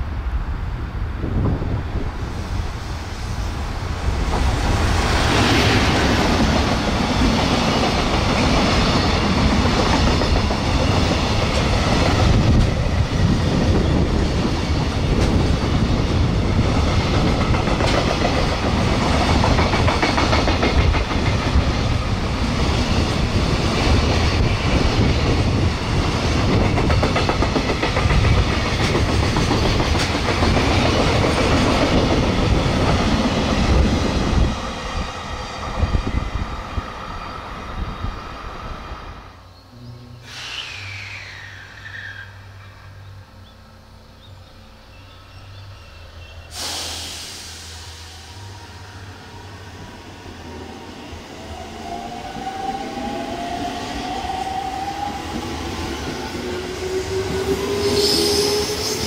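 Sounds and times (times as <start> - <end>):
freight train wheels on rails: 0.0 - 39.4, 46.2 - 59.0.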